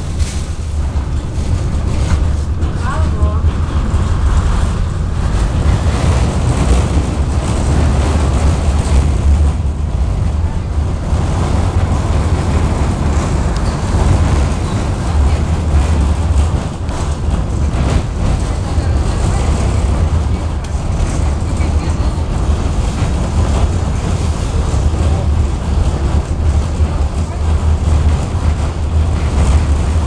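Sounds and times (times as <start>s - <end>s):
tram rumbling in motion: 0.0s - 30.0s.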